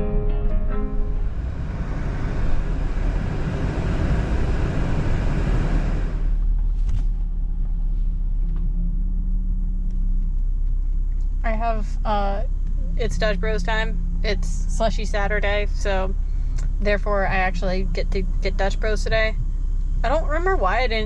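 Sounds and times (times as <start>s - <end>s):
low rumble of moving car: 0.0s - 21.0s
road and wind noise: 0.7s - 21.0s.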